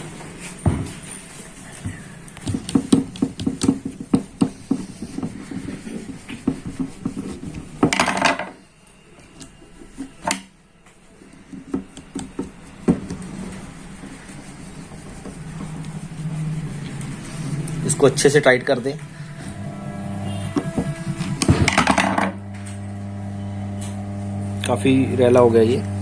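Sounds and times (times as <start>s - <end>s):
metal scraping: 0.0s - 24.1s.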